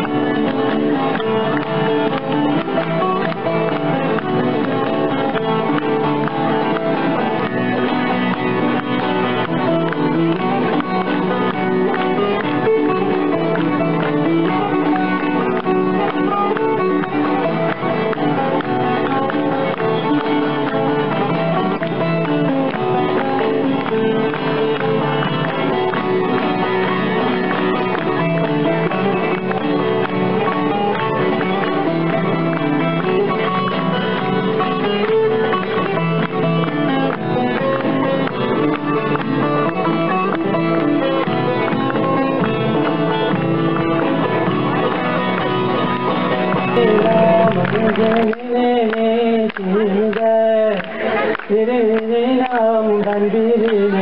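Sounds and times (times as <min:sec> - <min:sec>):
plucked string instrumental music: 0:00.0 - 0:54.0.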